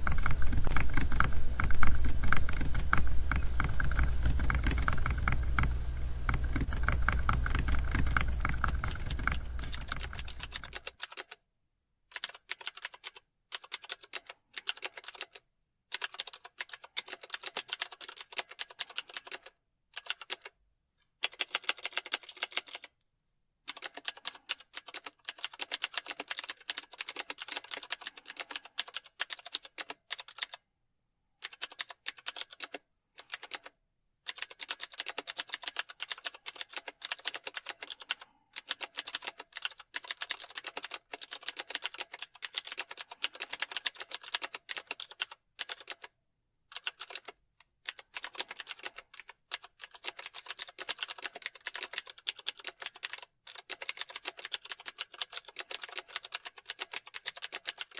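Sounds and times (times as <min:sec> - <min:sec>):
computer keyboard typing: 0:00.0 - 0:11.4, 0:12.1 - 0:20.6, 0:21.2 - 0:23.0, 0:23.7 - 0:30.6, 0:31.4 - 0:57.9.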